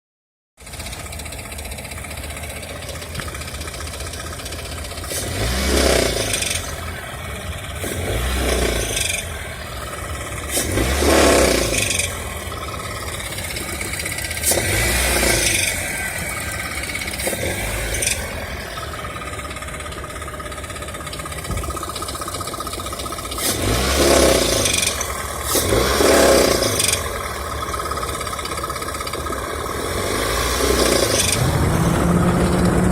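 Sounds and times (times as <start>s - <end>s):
car engine idling and revving: 0.6s - 32.9s
engine knocking: 0.6s - 32.9s.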